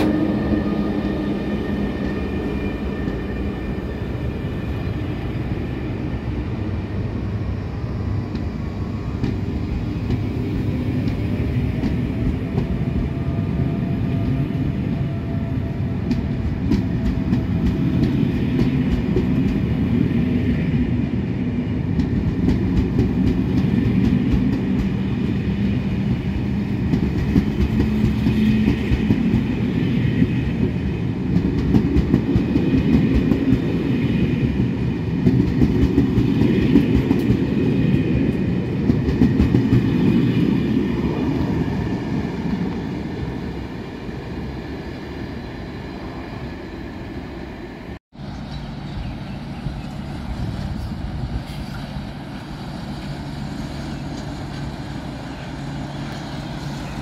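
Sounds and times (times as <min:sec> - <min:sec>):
train coaches rumbling past: 0:00.0 - 0:57.0.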